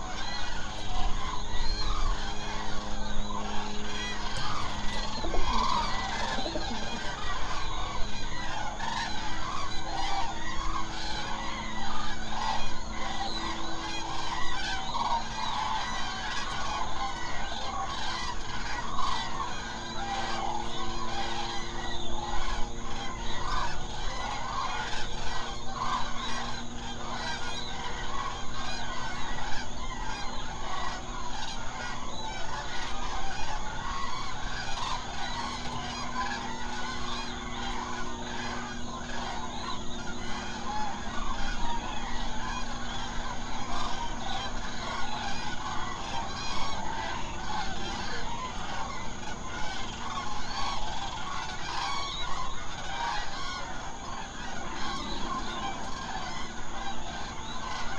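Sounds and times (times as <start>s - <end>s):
cranes trumpeting calls: 0.0s - 57.9s.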